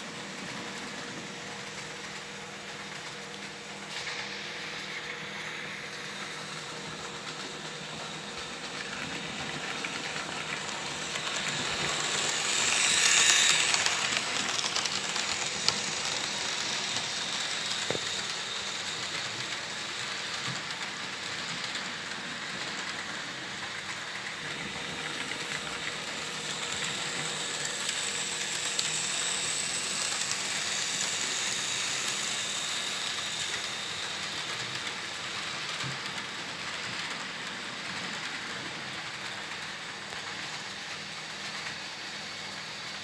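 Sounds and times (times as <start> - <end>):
model train whirring on rails: 0.0 - 43.0.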